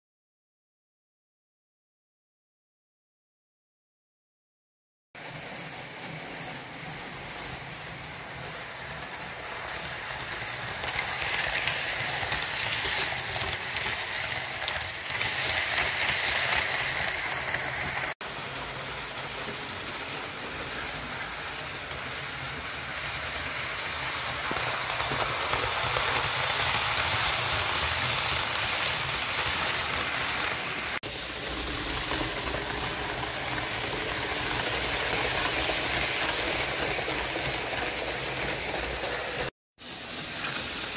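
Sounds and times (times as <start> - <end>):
model trains rattling on track: 5.2 - 40.9.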